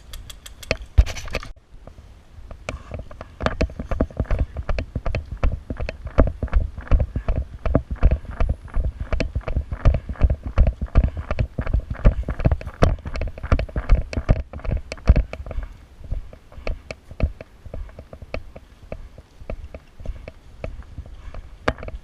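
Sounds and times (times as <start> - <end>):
footsteps: 0.0 - 22.0.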